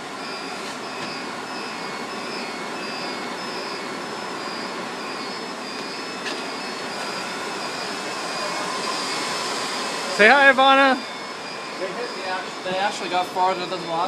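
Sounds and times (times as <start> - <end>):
high-pitched electronic chirping: 0.0 - 14.0
server cooling fans rushing: 0.0 - 14.0.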